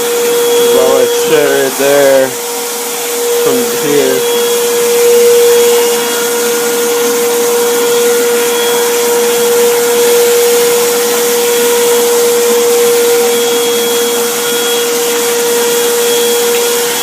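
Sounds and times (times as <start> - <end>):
wet vacuum running: 0.0 - 17.0.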